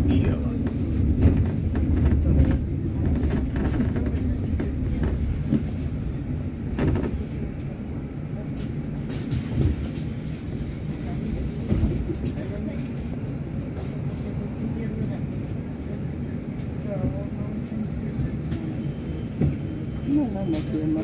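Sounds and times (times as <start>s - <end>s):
bus rumble from inside: 0.0s - 21.0s.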